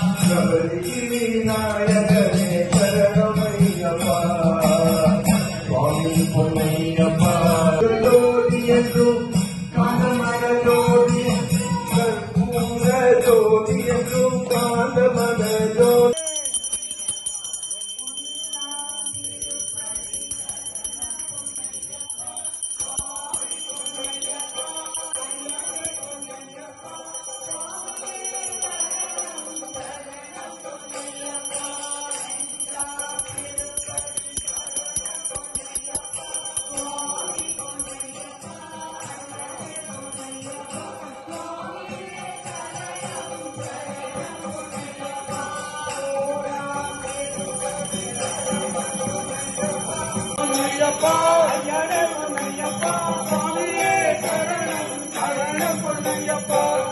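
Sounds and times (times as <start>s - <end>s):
devotional chanting with music: 0.0s - 56.9s
faint singing: 0.0s - 56.9s
hand bell ringing: 0.0s - 56.9s.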